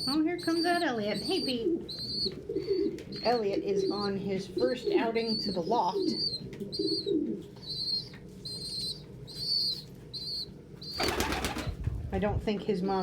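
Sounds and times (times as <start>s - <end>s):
pigeon cooing: 0.0s - 11.6s
young pigeon peeping: 0.0s - 11.9s.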